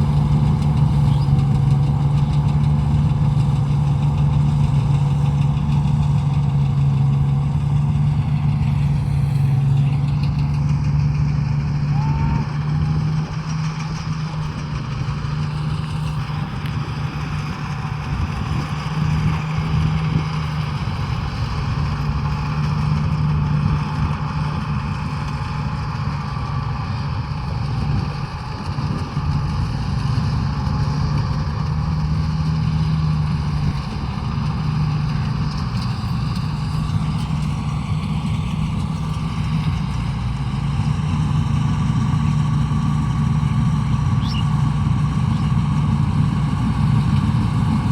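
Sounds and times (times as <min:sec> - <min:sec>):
harvester engine running: 0:00.0 - 0:47.9.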